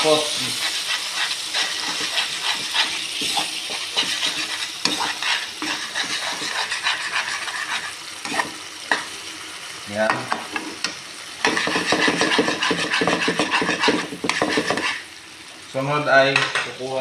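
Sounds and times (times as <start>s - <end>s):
spatula scraping a wok: 0.0s - 9.2s, 10.3s - 15.1s
sauce sizzling: 0.0s - 17.0s.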